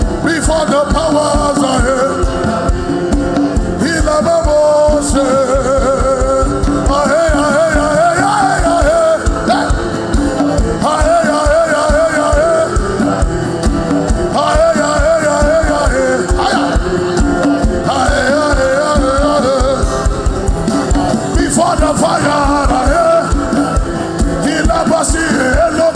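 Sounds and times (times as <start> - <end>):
band with fast drum beat: 0.0 - 25.9.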